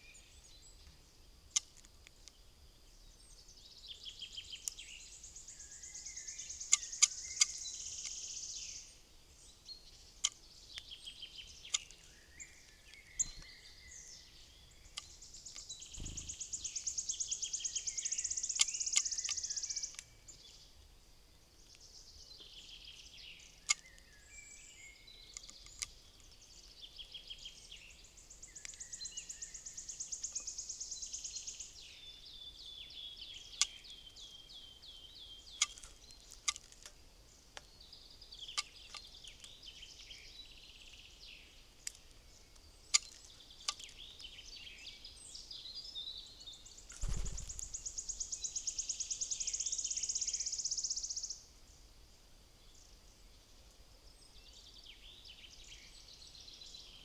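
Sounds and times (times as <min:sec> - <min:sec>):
soft bird chirps: 0:00.0 - 0:20.9, 0:21.5 - 0:51.9
songbird song: 0:00.0 - 0:57.0.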